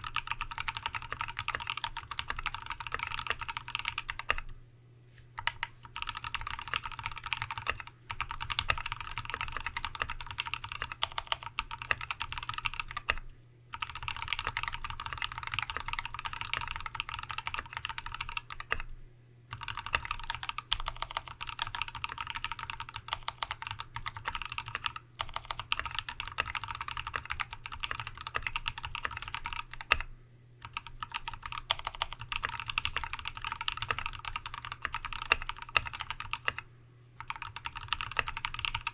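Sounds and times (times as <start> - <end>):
mechanical keyboard typing: 0.0 - 4.5, 5.4 - 18.9, 19.5 - 36.6, 37.2 - 38.9.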